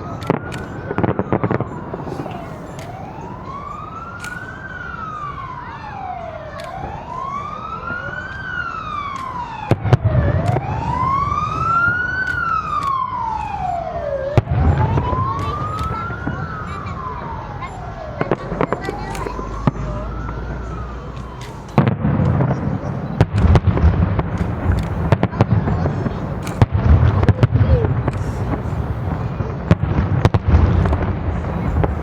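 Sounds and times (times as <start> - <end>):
firework bangs: 0.0 - 32.0
fireworks rumbling and crackling: 0.0 - 32.0
siren wailing: 0.0 - 32.0.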